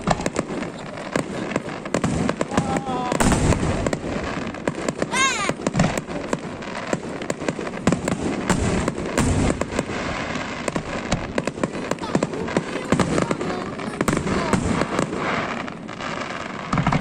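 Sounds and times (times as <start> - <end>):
deep firework booms: 0.0 - 17.0
fireworks crackling and banging: 0.0 - 17.0.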